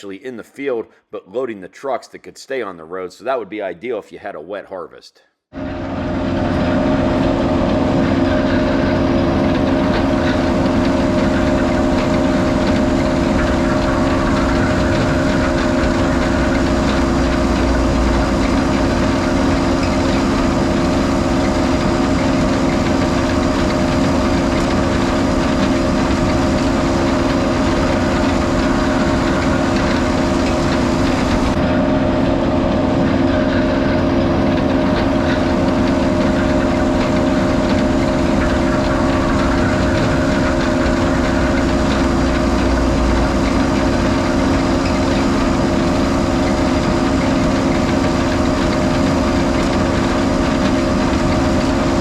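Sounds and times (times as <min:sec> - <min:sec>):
harvesting machinery engine drone: 0:05.6 - 0:52.0.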